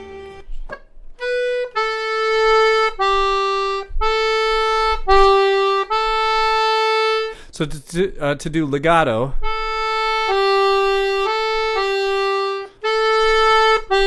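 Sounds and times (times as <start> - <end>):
free-reed instrument melody: 0.0 - 14.0.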